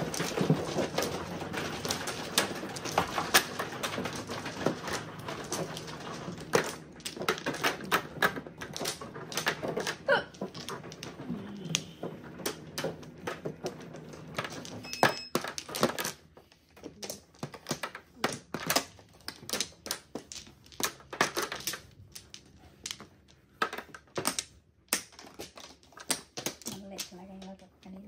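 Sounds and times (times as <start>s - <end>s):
mahjong tiles clacking: 0.0s - 28.0s.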